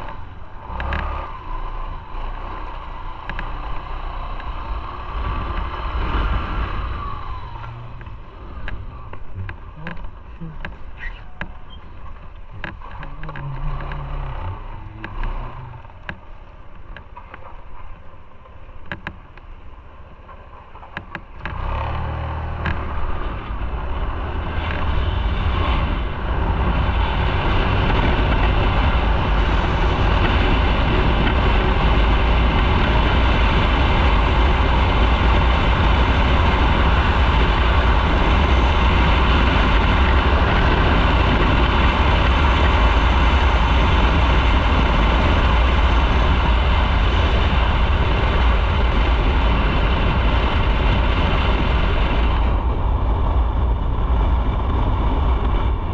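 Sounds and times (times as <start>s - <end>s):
motorcycle engine: 0.0s - 55.9s
wind noise on microphone: 0.0s - 55.9s.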